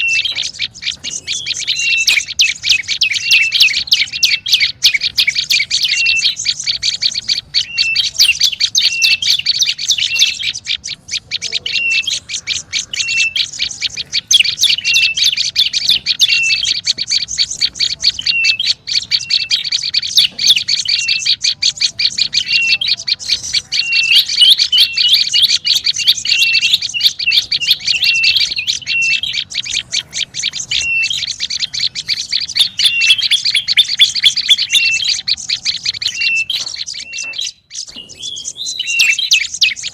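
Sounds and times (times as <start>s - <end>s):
bird chattering high ticking notes: 0.0s - 39.9s.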